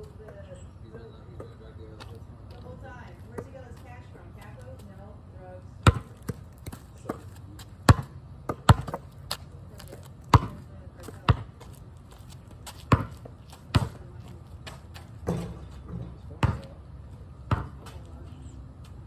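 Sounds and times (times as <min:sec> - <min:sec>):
basketball bouncing on asphalt: 0:00.0 - 0:05.0, 0:05.8 - 0:16.8, 0:17.4 - 0:18.0.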